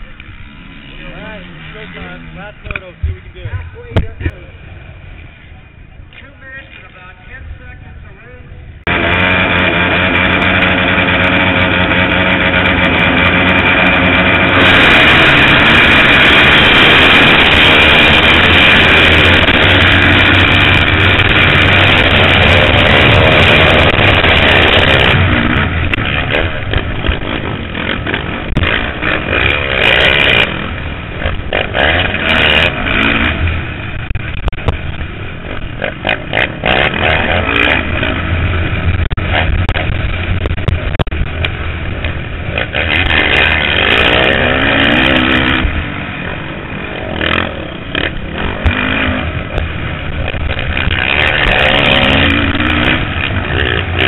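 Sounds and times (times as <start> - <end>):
dirt bikes revving: 0.0 - 54.0
motorcycle engine at full throttle: 0.0 - 54.0.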